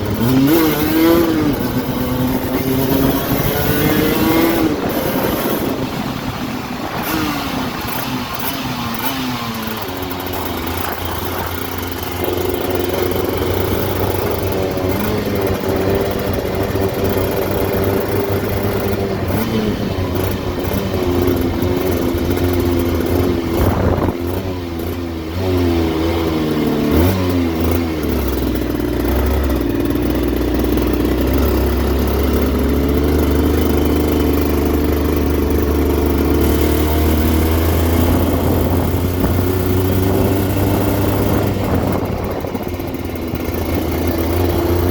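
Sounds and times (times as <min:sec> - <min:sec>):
two-stroke motorcycle engine running: 0:00.0 - 0:44.9.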